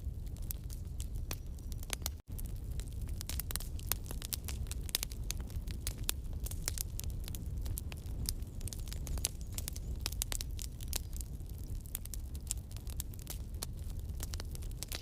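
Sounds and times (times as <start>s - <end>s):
campfire crackling and popping: 0.0s - 15.0s
flames rumbling: 0.0s - 15.0s.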